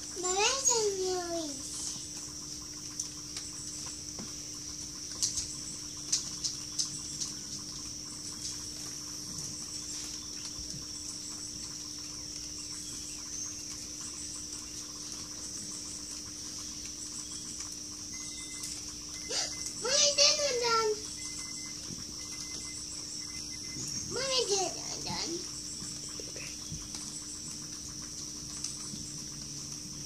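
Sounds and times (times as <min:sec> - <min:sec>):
low steady hum: 0:00.0 - 0:30.0
outdoor wildlife chorus: 0:00.0 - 0:30.0.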